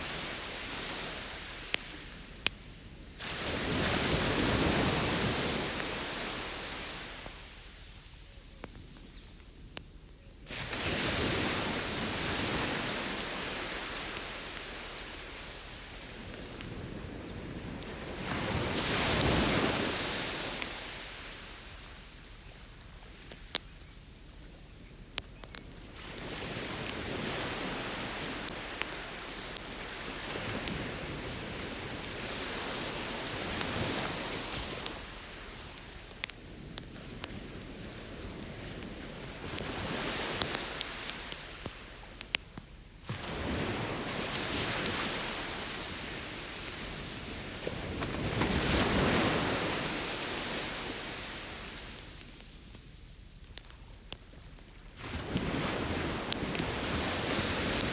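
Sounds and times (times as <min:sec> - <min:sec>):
ocean surf washing ashore: 0:00.0 - 0:07.9, 0:10.5 - 0:23.6, 0:25.8 - 0:52.3, 0:55.0 - 0:57.9
campfire crackling and popping: 0:00.0 - 0:57.9.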